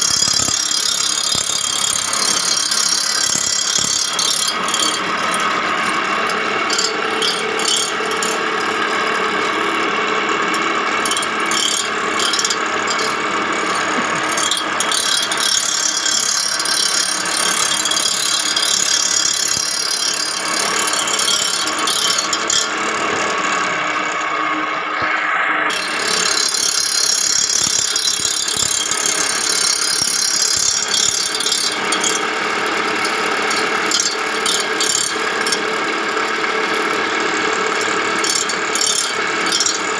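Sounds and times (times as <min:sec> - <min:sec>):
rapid metallic clicking: 0:00.0 - 0:09.9, 0:10.5 - 0:23.7, 0:25.7 - 0:39.9
grinding hiss: 0:00.0 - 0:39.9.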